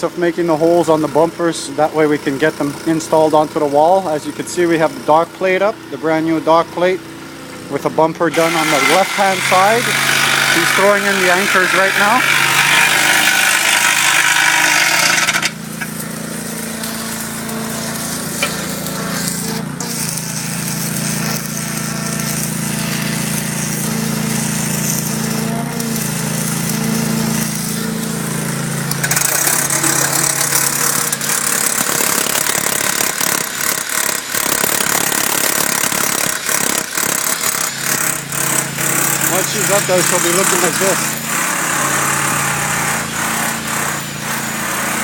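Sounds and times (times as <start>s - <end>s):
power tool hammering rattle: 0.0s - 45.0s
motor hum: 1.0s - 45.0s.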